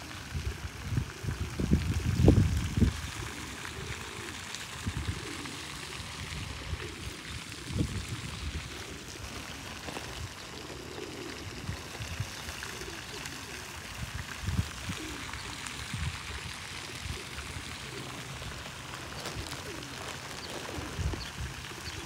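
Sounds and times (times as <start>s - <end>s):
fountain splashing: 0.0s - 22.0s.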